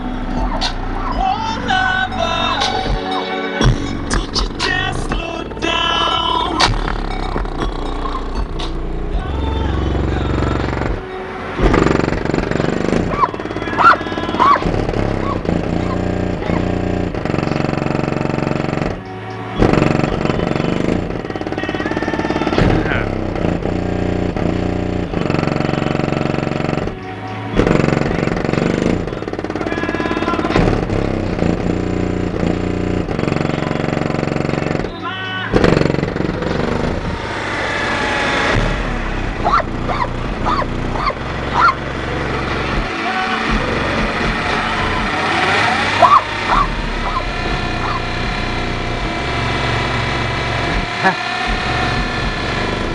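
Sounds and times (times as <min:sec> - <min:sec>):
rattling: 0:00.0 - 0:27.0, 0:27.6 - 0:52.9
bass-heavy music through car speakers: 0:00.0 - 0:52.9.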